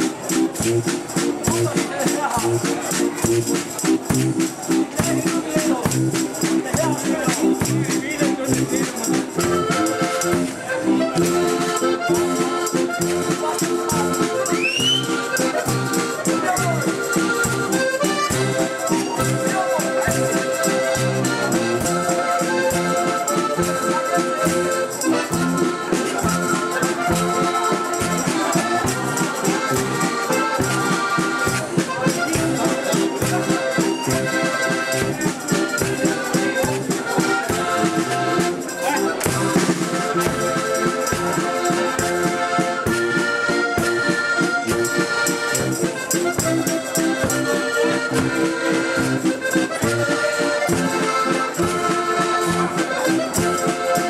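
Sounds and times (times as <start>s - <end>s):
drum kit beat: 0.0s - 19.7s, 21.0s - 50.2s
button accordion playing: 0.0s - 54.0s
jingling percussion: 0.0s - 54.0s.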